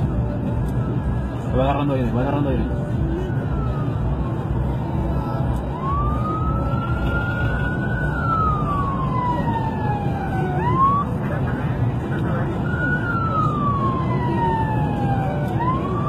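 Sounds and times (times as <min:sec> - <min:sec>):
engine and road rumble: 0:00.0 - 0:16.0
police siren wailing: 0:00.0 - 0:16.0.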